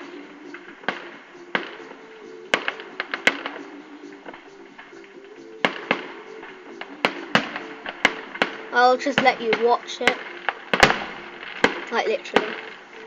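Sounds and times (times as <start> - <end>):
fireworks exploding: 0.0 - 13.0
music playing: 0.0 - 13.0.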